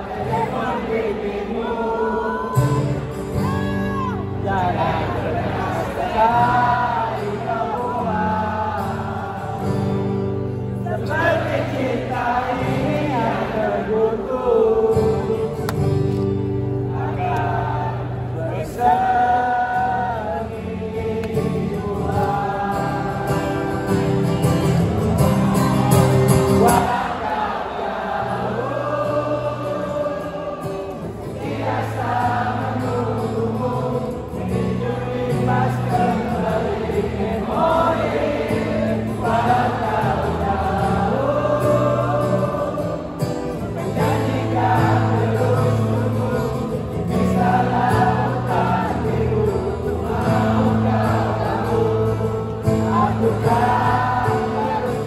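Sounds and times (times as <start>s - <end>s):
crowd singing along: 0.0s - 55.0s
strummed acoustic guitar: 2.5s - 55.0s.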